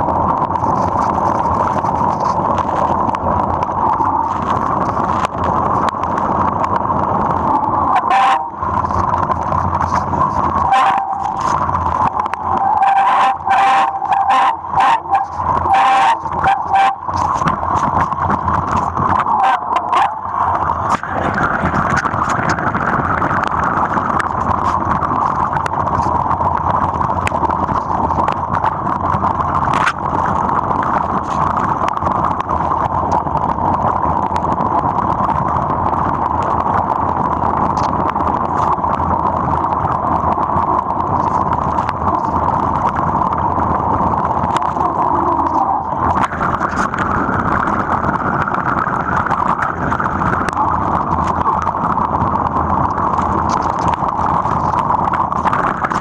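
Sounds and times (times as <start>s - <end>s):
bike tyres rolling on dirt trail: 0.0s - 56.0s.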